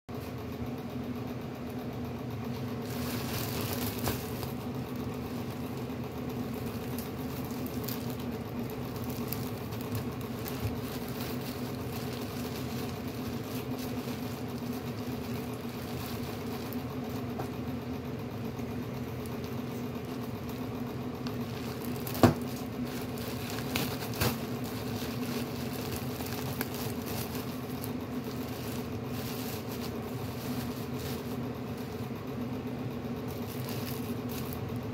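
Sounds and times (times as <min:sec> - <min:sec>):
appliance electrical hum: 0:00.1 - 0:34.9
plastic bag rustling: 0:02.5 - 0:17.6, 0:19.0 - 0:32.3, 0:33.1 - 0:34.9.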